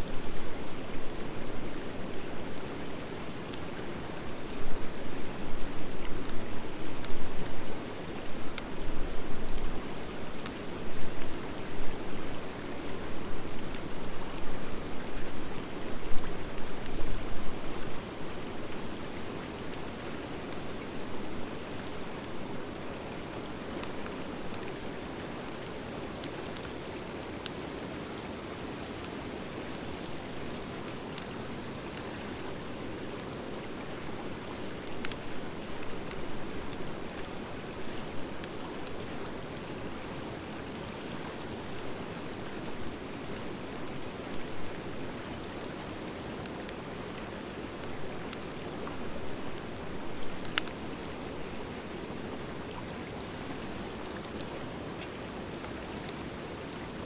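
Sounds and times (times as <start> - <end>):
fire crackles and pops: 1.5 - 28.0, 28.9 - 56.3.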